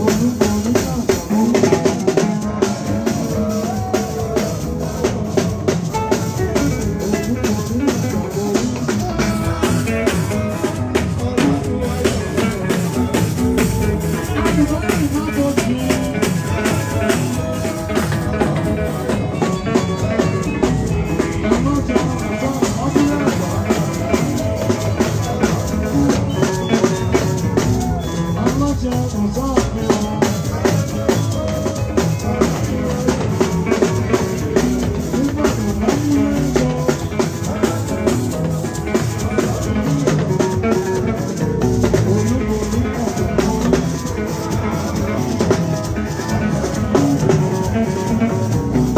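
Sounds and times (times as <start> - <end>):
dance band music: 0.0 - 48.9
drum kit beat: 0.0 - 48.9
guitar: 0.0 - 48.9.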